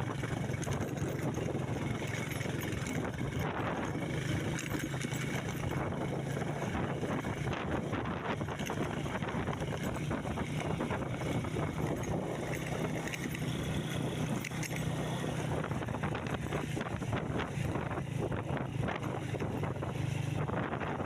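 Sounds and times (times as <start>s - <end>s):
small rattles and clicks: 0.0s - 21.0s
vehicle engine drone: 0.0s - 21.0s
wind rushing on microphone: 0.0s - 21.0s.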